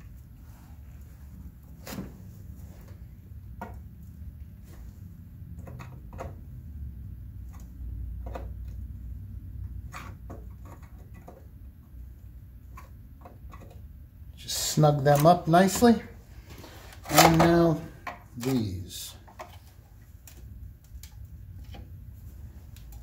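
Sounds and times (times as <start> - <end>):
wires seated in terminal block: 0.0 - 23.0.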